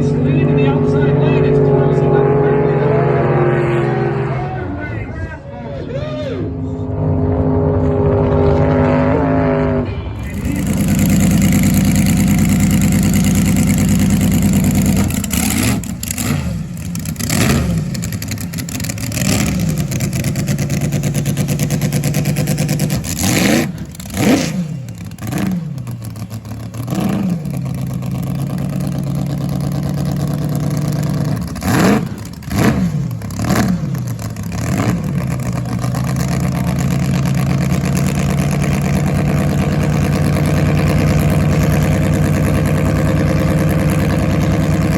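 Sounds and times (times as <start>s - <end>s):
racing jet boat engines: 0.0s - 44.9s.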